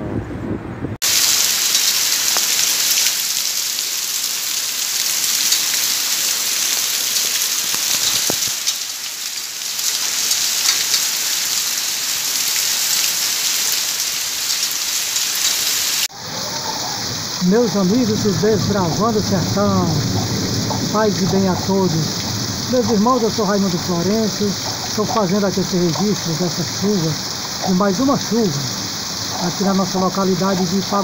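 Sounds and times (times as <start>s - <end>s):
heavy rain on wet street: 1.0s - 31.0s.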